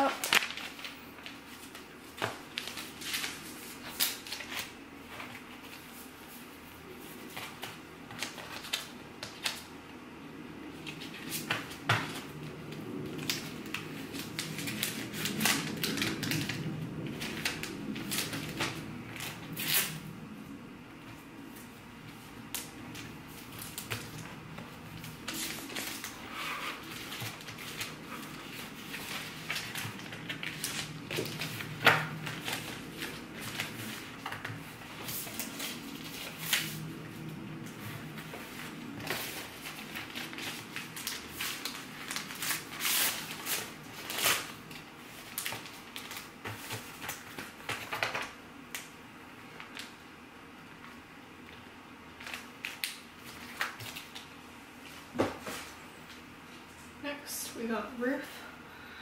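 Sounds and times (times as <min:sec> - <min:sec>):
plastic and paper rustling: 0:00.0 - 0:10.0, 0:10.7 - 0:50.0, 0:50.7 - 0:56.8.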